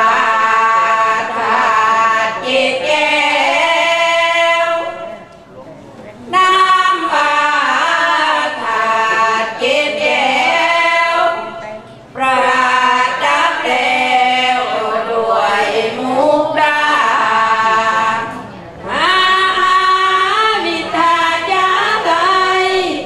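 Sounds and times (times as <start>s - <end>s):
women singing devotional chant: 0.0s - 5.3s, 6.1s - 23.0s.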